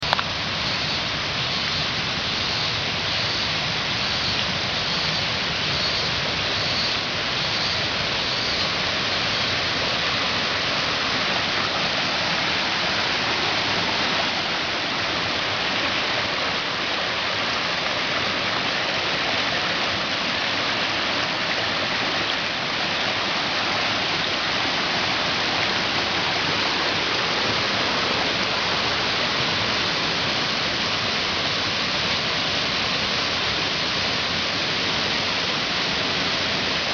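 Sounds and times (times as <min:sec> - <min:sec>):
waterfall splashing: 0:00.0 - 0:36.9.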